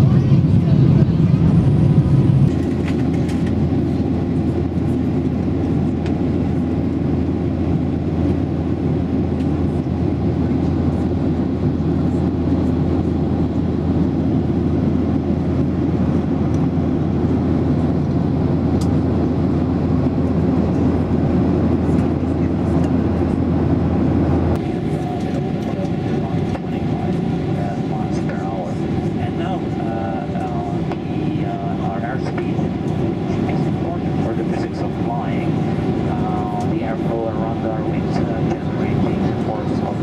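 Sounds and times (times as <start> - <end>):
airplane cabin drone: 0.0 - 40.0.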